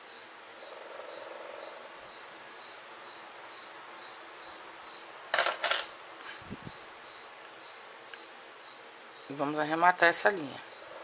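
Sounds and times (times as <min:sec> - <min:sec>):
faint pulsing high-pitched whine: 0:00.0 - 0:11.0.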